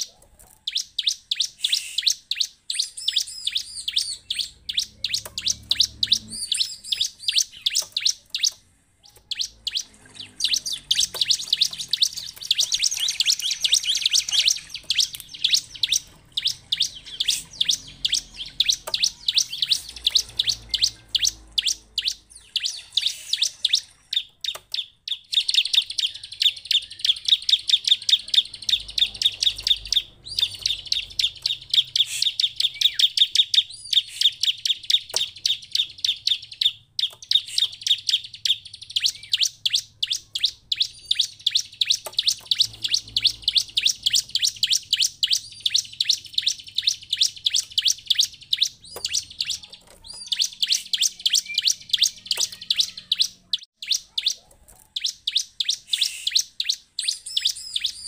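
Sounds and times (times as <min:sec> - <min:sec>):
bird chirping rapidly: 0:00.0 - 0:58.0.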